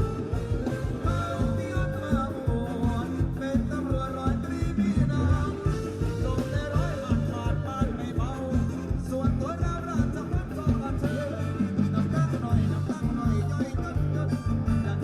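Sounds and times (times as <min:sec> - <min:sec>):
band music with singing: 0:00.0 - 0:15.0.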